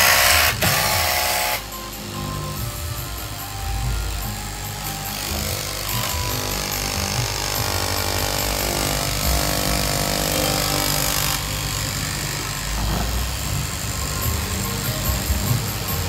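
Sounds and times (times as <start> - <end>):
electric cloth cutter running: 0.0 - 16.0.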